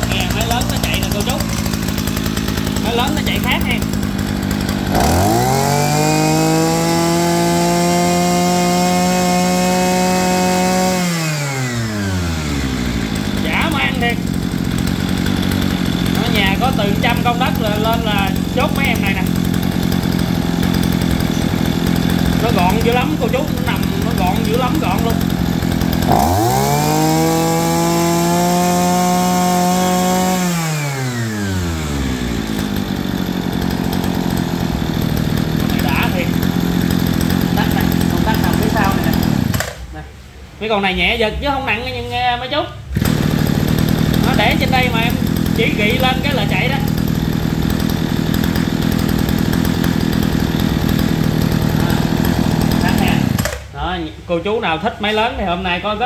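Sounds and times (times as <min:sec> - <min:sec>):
brush cutter engine revving: 0:00.0 - 0:40.0, 0:42.8 - 0:53.8.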